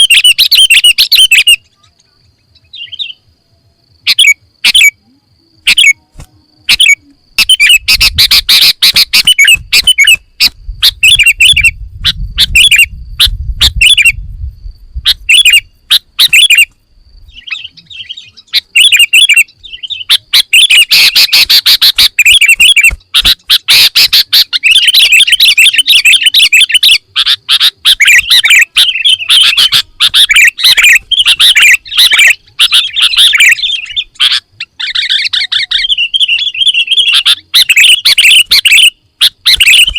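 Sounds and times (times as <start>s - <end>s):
bulbul singing chirped phrases: 0.0s - 39.9s.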